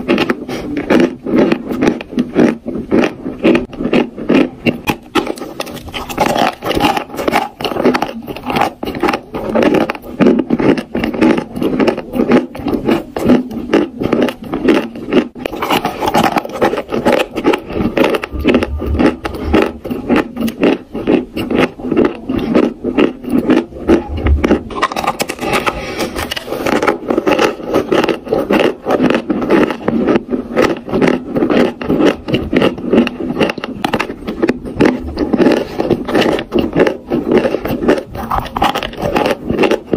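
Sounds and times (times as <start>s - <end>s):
chalk crunching while chewed: 0.0s - 39.9s.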